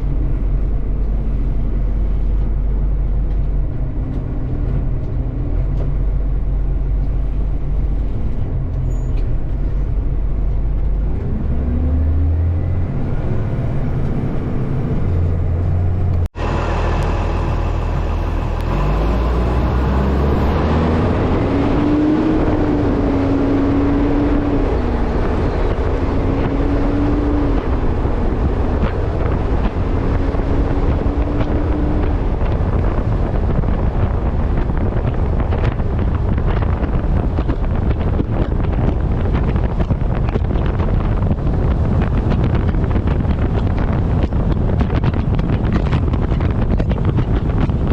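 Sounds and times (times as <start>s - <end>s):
truck engine accelerating: 0.0s - 47.9s
wind buffeting camera: 0.0s - 47.9s.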